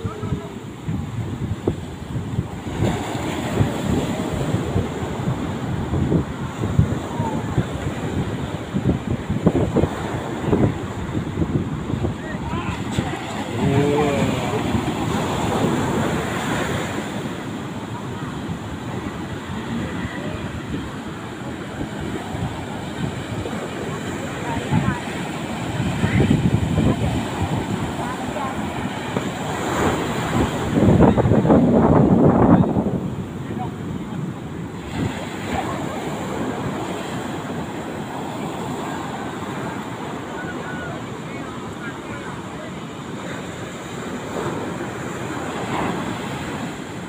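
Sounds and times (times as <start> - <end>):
sea: 0.0 - 47.0
wind on microphone: 0.0 - 47.0.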